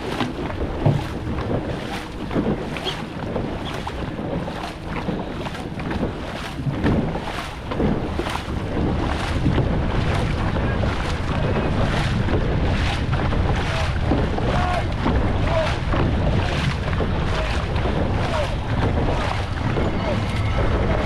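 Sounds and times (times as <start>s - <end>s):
paddles pulling through water: 0.0s - 21.0s
wind rumble on microphone: 0.0s - 21.0s.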